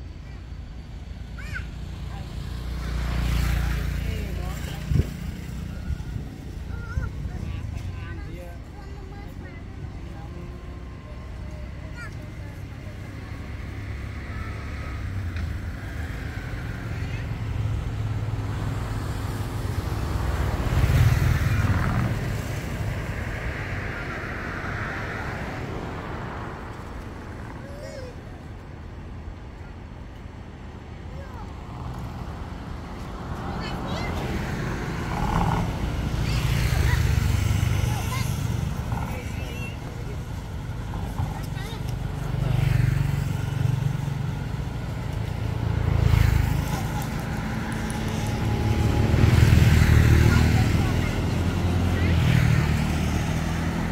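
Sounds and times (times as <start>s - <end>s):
vehicle passing by: 1.4s - 28.3s, 31.1s - 53.9s.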